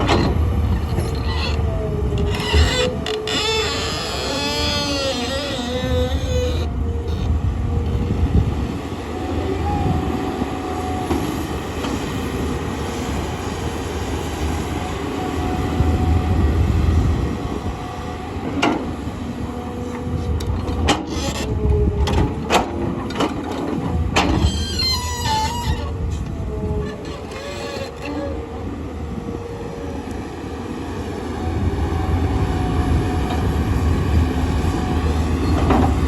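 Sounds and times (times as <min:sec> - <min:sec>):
excavator diesel engine rumbling: 0:00.0 - 0:36.0.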